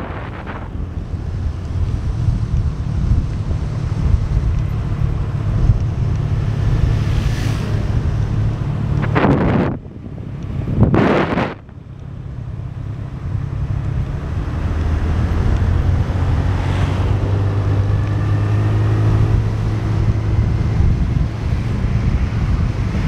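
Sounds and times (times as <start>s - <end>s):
wind rush on microphone: 0.0s - 23.0s.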